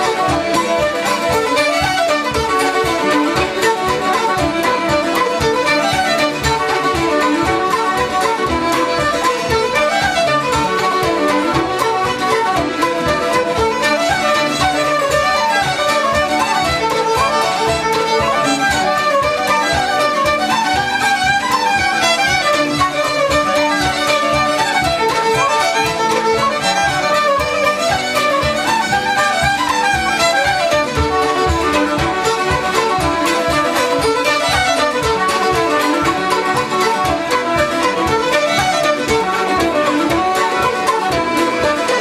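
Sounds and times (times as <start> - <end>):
fiddle playing traditional music: 0.0 - 42.0.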